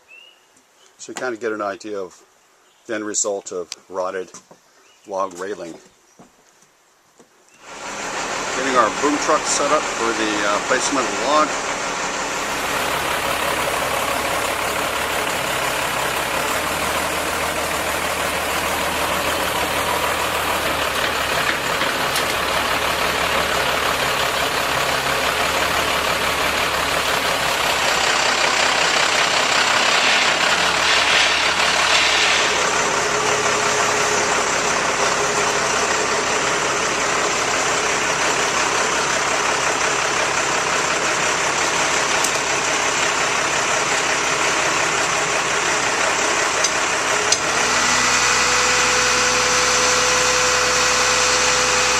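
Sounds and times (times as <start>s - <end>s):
truck engine idling: 7.6s - 51.9s.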